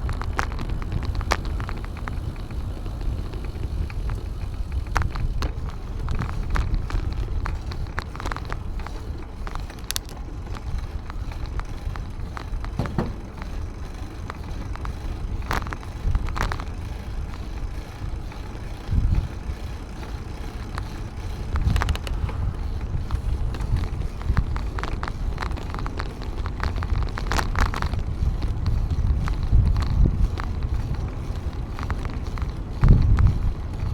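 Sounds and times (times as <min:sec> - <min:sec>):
bicycle clicks and rattles: 0:00.0 - 0:33.9
wind and road rumble: 0:00.0 - 0:33.9.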